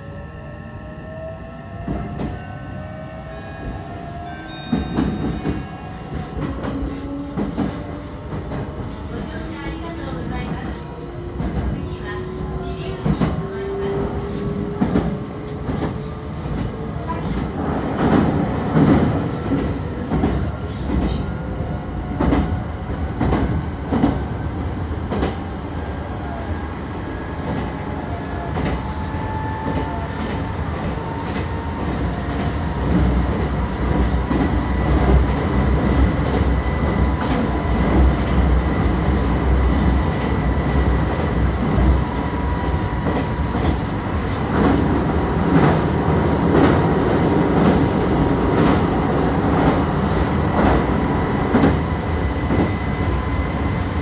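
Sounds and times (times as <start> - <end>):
train rumble: 1.8 - 54.0.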